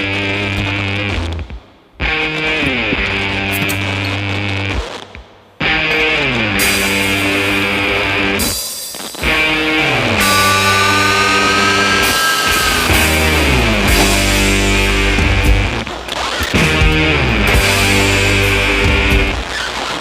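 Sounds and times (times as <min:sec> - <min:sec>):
rock music with sliding guitar riff: 0:00.0 - 0:20.0.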